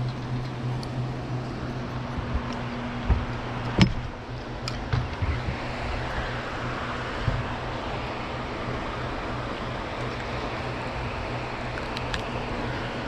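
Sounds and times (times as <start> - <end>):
low even hum: 0.0 - 13.0
rushing water: 0.0 - 13.0.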